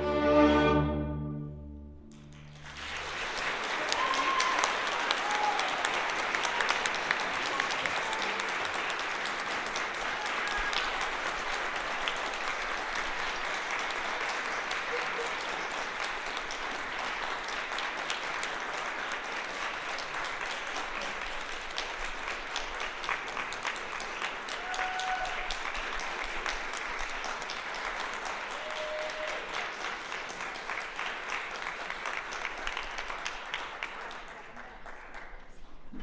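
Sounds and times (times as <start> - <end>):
audience applauding: 2.1 - 35.6.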